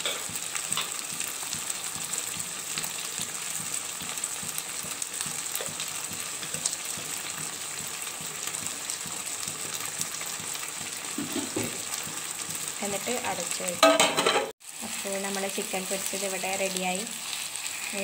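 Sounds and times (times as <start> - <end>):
chicken frying in a pan: 0.0 - 18.0.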